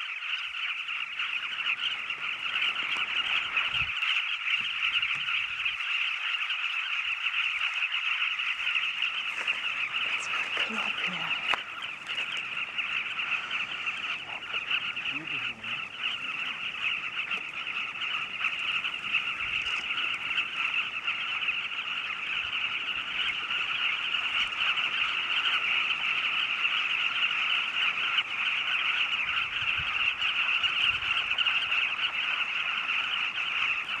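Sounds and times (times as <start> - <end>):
chorus of bird calls: 0.0 - 34.0.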